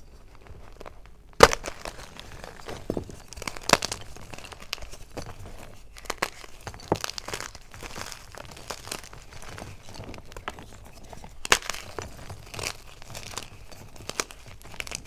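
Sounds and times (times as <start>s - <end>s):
chalk cracking and crunching: 0.0s - 15.0s.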